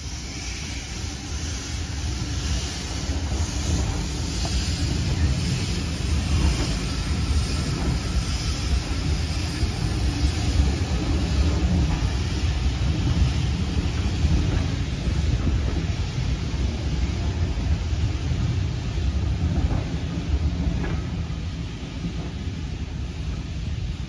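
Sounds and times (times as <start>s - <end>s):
train coaches rumbling past: 0.0s - 24.0s.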